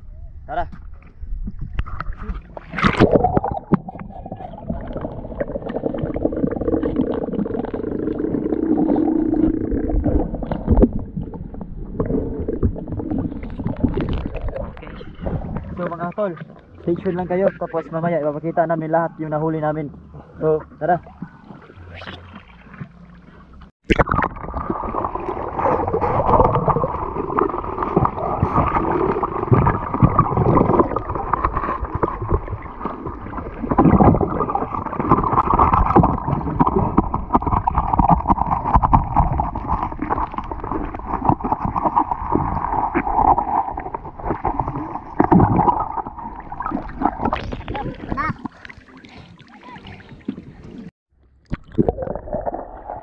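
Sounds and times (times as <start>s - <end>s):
underwater rushing and gurgling: 1.2s - 50.9s, 51.6s - 53.0s.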